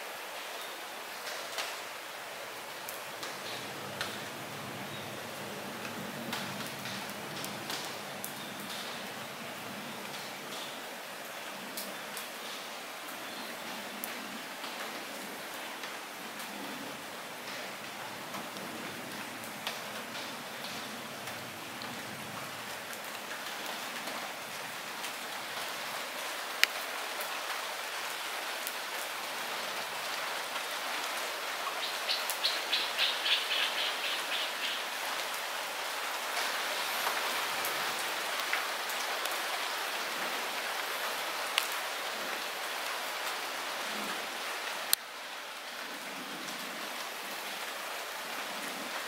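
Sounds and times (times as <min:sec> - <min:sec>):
light rain hissing: 0:00.0 - 0:49.0.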